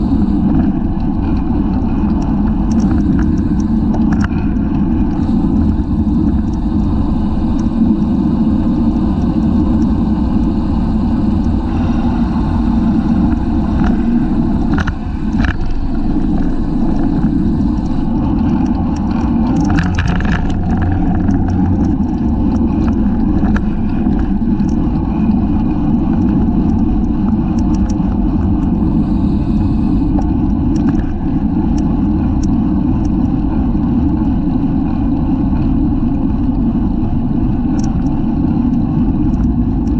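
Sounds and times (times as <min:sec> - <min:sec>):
bike clicks and rattles: 0:00.0 - 0:10.8, 0:12.7 - 0:34.4, 0:35.5 - 0:39.9
loud wind rush on microphone: 0:00.0 - 0:39.9.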